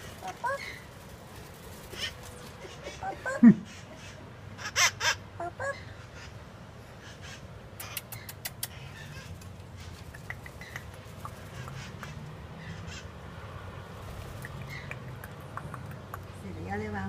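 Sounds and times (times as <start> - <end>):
parrots squawking and chirping: 0.0 - 13.2, 14.2 - 16.2.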